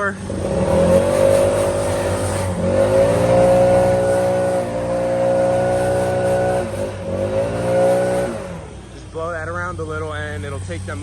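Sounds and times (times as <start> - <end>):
gas leaf blower running: 0.0 - 11.0.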